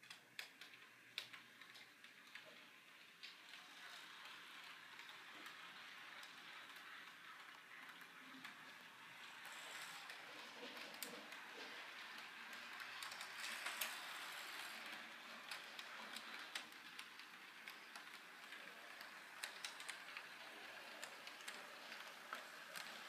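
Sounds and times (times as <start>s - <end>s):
model train motor whirring: 0.4s - 23.0s.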